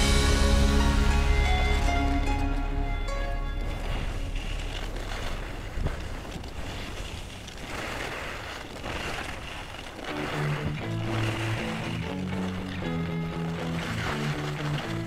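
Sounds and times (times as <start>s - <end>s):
skis scraping over snow: 0.0s - 15.0s.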